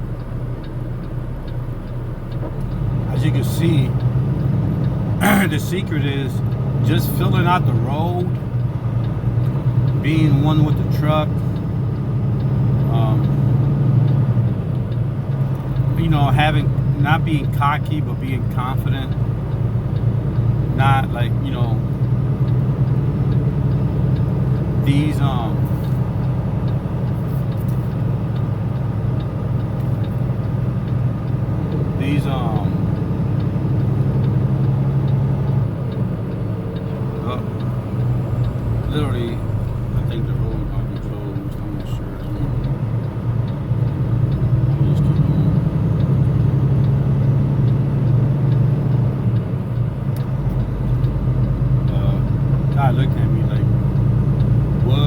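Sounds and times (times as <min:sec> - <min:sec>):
diesel engine droning: 0:00.0 - 0:55.0
road noise: 0:00.0 - 0:55.0.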